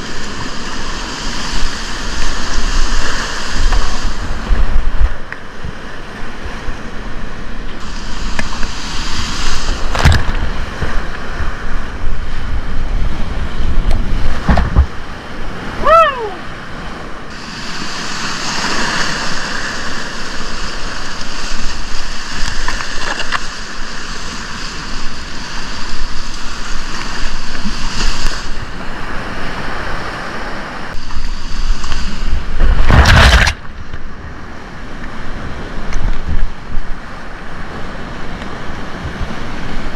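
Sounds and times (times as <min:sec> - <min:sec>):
rushing whitewater: 0:00.0 - 0:39.9
wind rumbling on microphone: 0:00.0 - 0:39.9.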